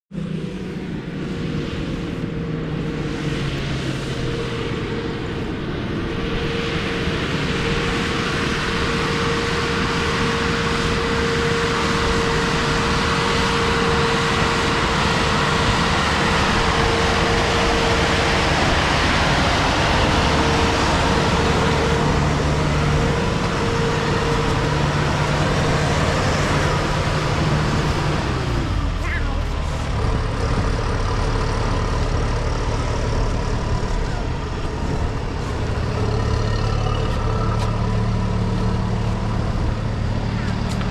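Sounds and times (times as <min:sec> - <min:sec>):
harvesting machine running: 0:00.1 - 0:40.9.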